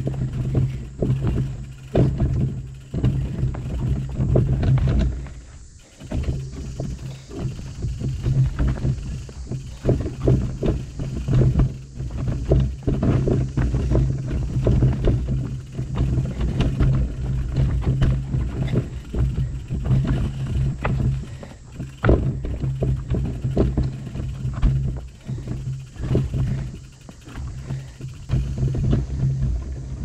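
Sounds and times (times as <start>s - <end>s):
bike knocking and rattling: 0.0s - 30.0s
bike tyres rolling on stone: 0.0s - 30.0s
steady low rumble: 0.0s - 30.0s.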